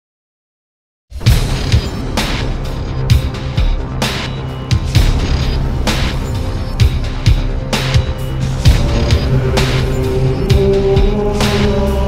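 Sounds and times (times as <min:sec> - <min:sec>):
held tones of theme music: 0:01.2 - 0:12.0
sharp heavy hits: 0:01.2 - 0:12.0.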